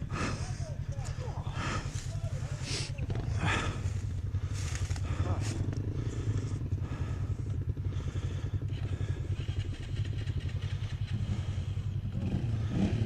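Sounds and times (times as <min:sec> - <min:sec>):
dirt bike engine running steadily: 0:00.0 - 0:13.0.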